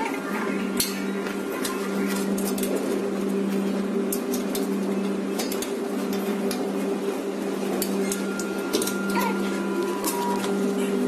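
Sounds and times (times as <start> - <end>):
steady two-tone hum: 0.0 - 11.0.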